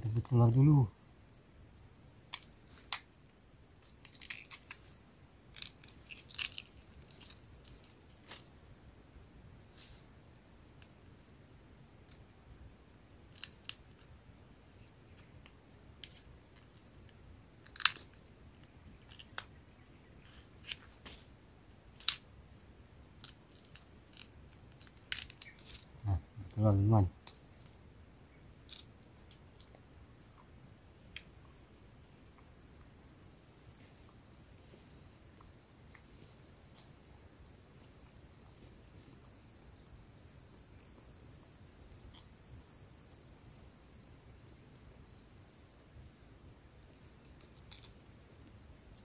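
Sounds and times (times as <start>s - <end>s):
high insect drone: 0.0s - 49.0s
second high insect tone: 0.0s - 49.0s.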